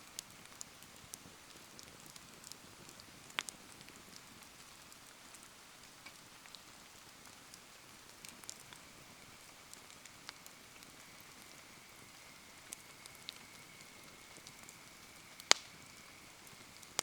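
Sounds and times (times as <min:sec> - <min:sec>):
campfire crackling and popping: 0:00.0 - 0:17.0
rain falling: 0:00.0 - 0:17.0.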